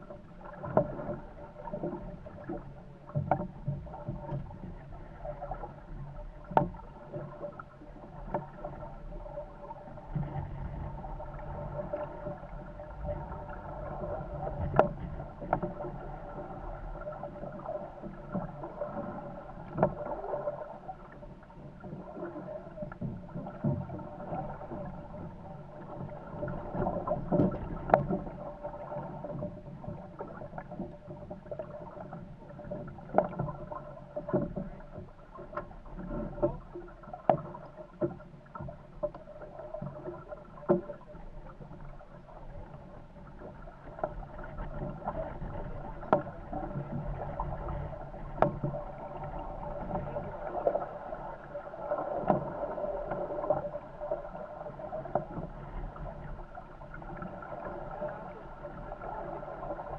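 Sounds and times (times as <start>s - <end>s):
boat hull slapping waves: 0.0s - 59.9s
water rushing along hulls: 0.0s - 59.9s.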